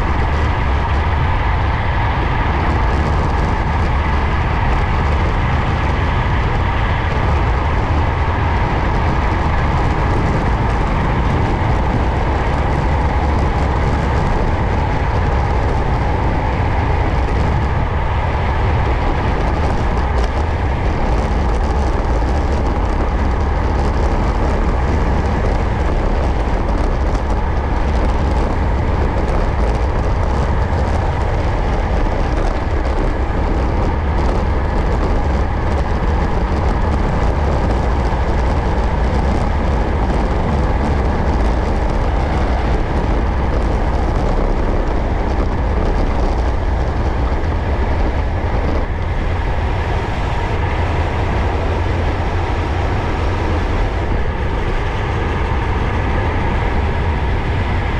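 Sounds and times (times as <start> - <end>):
bike tyres rumbling on tarmac: 0.0 - 57.9
wind buffeting microphone: 0.0 - 57.9.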